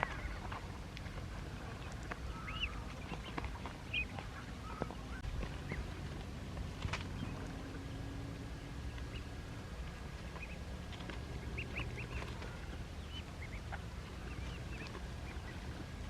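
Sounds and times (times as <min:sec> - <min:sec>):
ducklings peeping: 0:00.0 - 0:16.0
low background rumble: 0:00.0 - 0:16.0.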